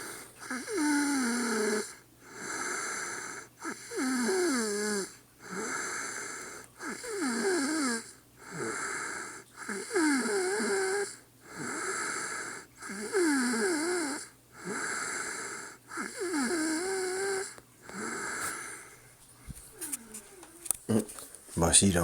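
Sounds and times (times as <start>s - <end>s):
woman snoring: 0.0s - 19.0s, 19.7s - 20.6s.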